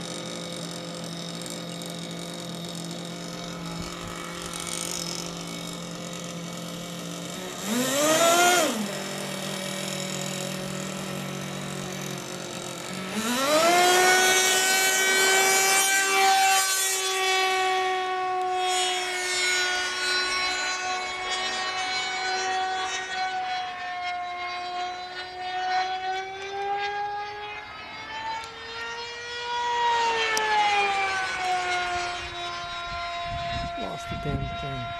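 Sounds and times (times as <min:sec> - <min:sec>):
model aircraft engine whining: 0:00.0 - 0:34.9.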